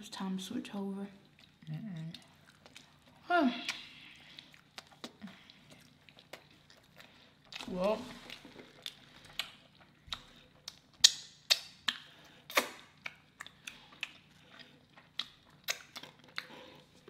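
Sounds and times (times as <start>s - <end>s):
chewing with wet mouth clicks: 1.2s - 17.0s.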